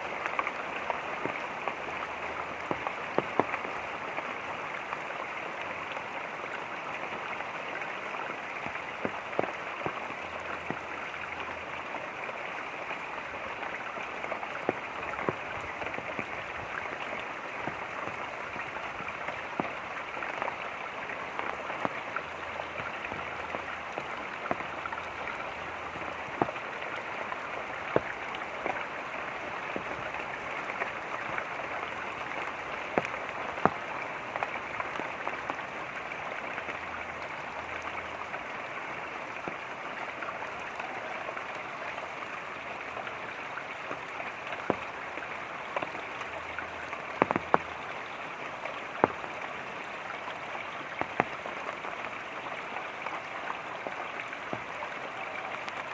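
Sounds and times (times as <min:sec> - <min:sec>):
raindrops tapping: 0:00.0 - 0:55.9
running water: 0:00.0 - 0:55.9.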